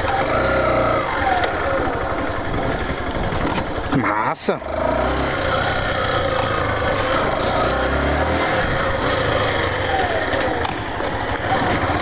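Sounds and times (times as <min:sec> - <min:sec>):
motorcycle engine running: 0:00.0 - 0:12.0
riding noise: 0:00.0 - 0:12.0.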